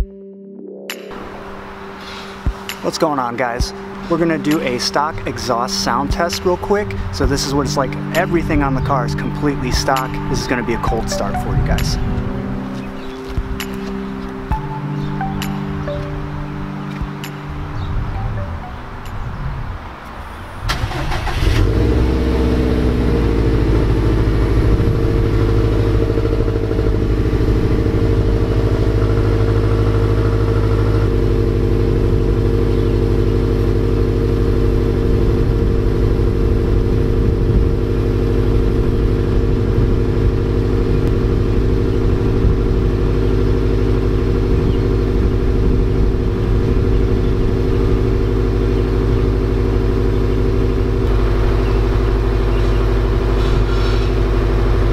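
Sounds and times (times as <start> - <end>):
car engine starting and idling: 1.2 - 19.2, 20.0 - 54.9.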